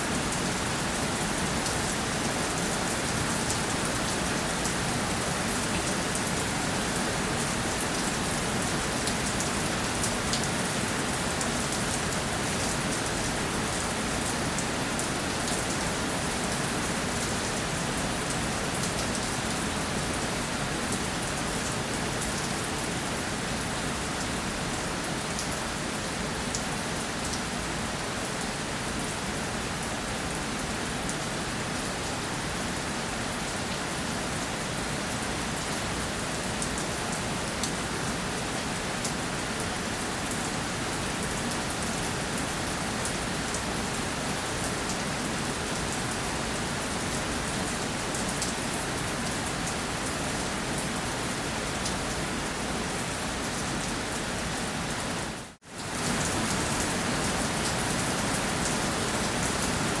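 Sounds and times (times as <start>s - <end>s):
rain hissing on surfaces: 0.0s - 60.0s.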